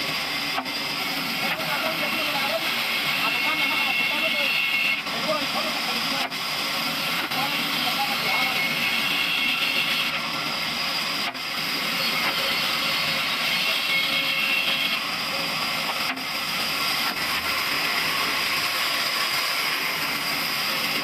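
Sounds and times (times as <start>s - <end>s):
band saw cutting wood: 0.0s - 21.0s.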